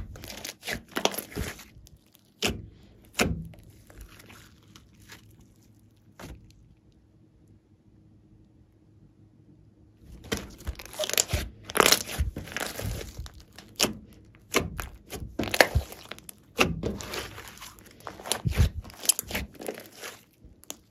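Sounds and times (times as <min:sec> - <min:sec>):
slime squelching: 0:00.0 - 0:06.8, 0:10.1 - 0:20.9.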